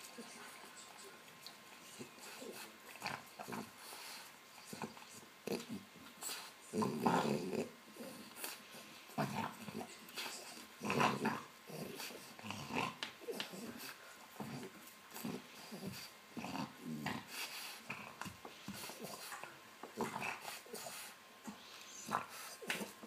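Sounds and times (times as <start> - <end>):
dog growling: 1.8 - 23.0.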